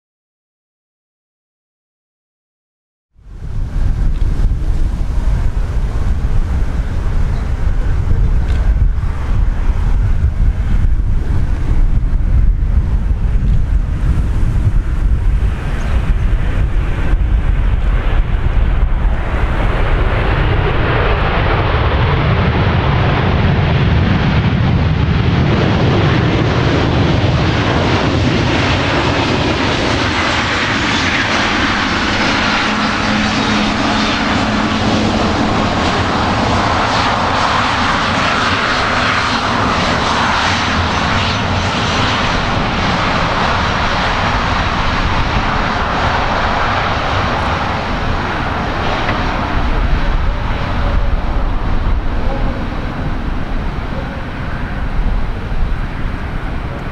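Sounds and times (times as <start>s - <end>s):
jet engine rumble: 3.2s - 56.9s
jet engine whine: 3.2s - 56.9s.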